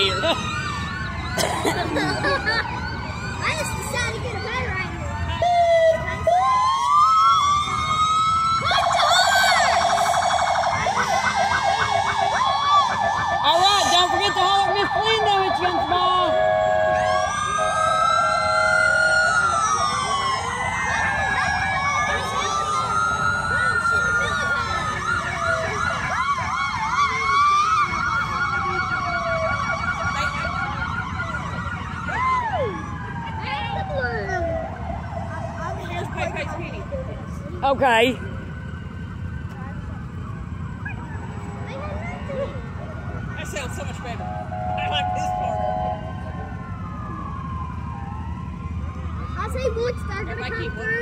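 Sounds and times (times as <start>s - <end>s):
electronic siren: 0.0s - 36.9s, 38.8s - 51.0s.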